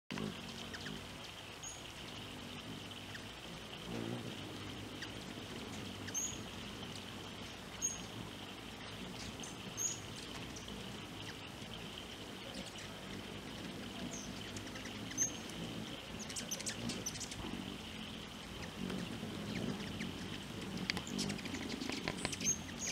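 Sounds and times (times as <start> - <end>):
hummingbird chip notes: 0.1 - 22.9
steady high hum: 0.1 - 22.9.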